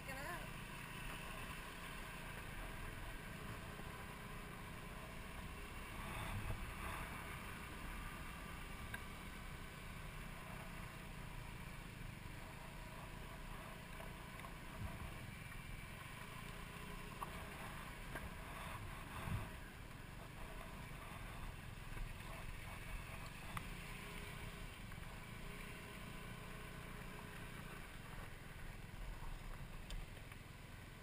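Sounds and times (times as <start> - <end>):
motor scooter engine running: 0.0 - 31.0.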